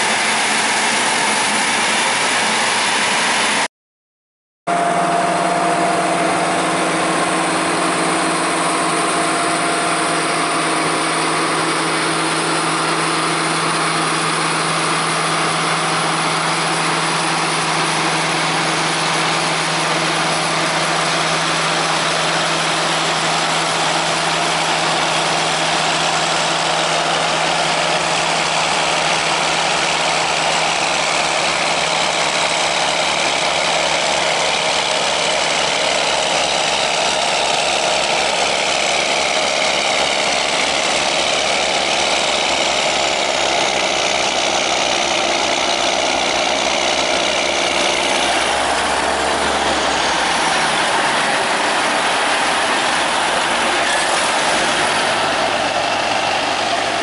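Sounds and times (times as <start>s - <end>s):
diesel engine hum: 0.0s - 3.7s, 4.7s - 57.0s.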